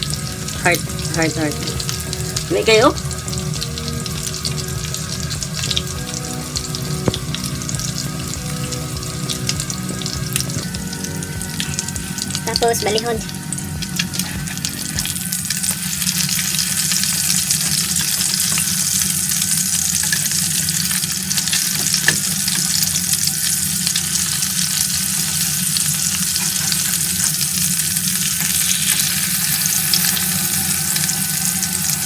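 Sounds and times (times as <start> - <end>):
food sizzling: 0.0 - 32.0.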